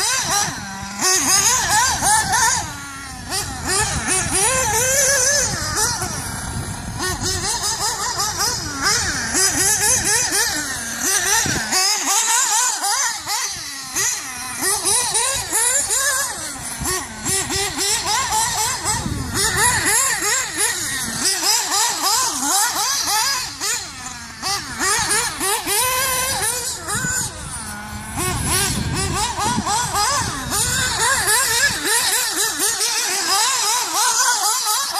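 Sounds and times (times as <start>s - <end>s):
rc car motor revving: 0.0s - 34.9s.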